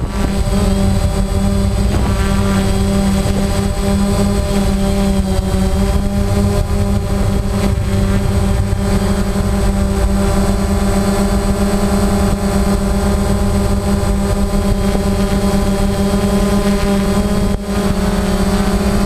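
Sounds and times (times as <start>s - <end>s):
drone motors and propellers humming: 0.0s - 19.0s.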